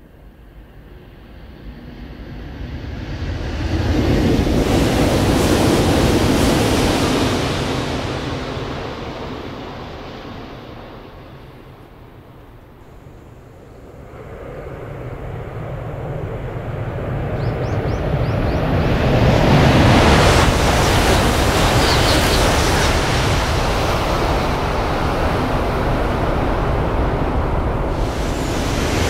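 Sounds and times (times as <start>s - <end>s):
high-speed train passing: 0.0s - 29.0s
rush of air and rail noise: 0.0s - 29.0s.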